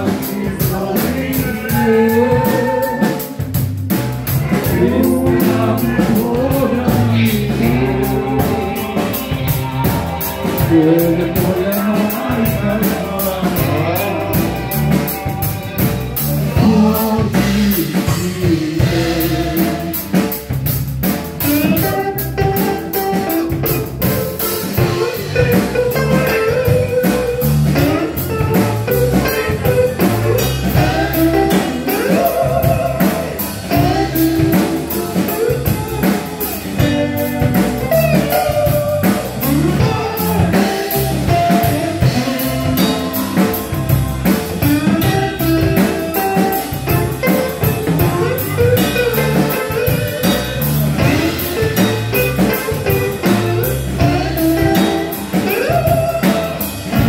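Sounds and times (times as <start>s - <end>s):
person singing: 0.0s - 3.6s, 4.3s - 20.5s, 21.4s - 57.0s
drums keeping a steady beat: 0.0s - 57.0s
electric bass guitar: 0.0s - 57.0s
electric guitar: 0.0s - 57.0s.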